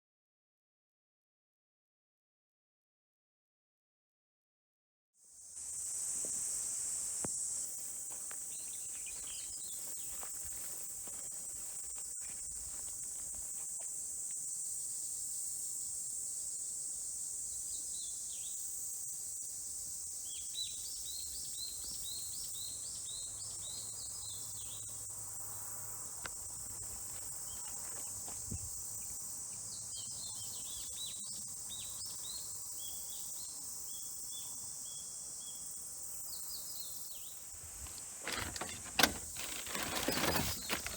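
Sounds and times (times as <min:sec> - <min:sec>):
insects droning: 0:05.3 - 0:40.9.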